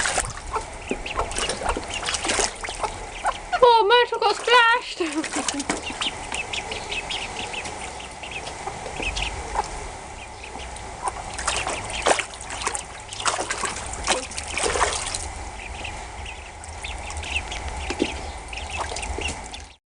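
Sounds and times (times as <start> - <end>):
water trickling and splashing: 0.0 - 9.8, 10.5 - 19.8
ducklings peeping: 0.0 - 19.8.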